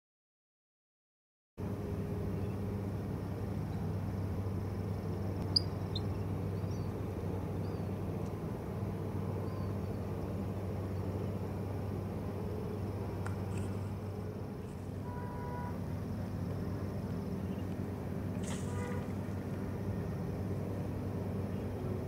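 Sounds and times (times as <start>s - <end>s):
low engine drone: 1.6s - 22.0s.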